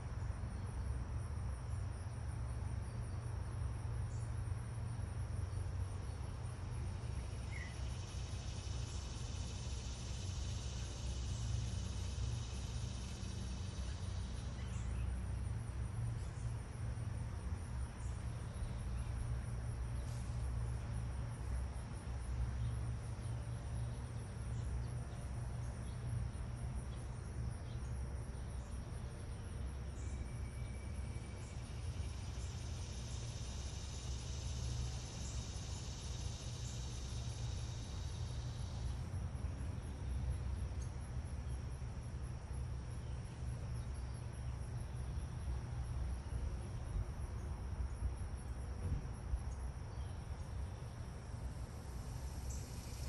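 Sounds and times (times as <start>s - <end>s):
insects trilling: 0.0s - 53.0s
louder insect chorus: 0.0s - 53.0s.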